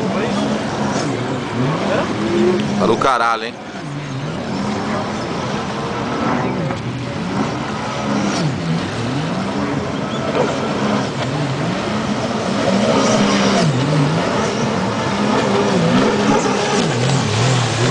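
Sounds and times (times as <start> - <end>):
jet ski engines revving: 0.0 - 17.9.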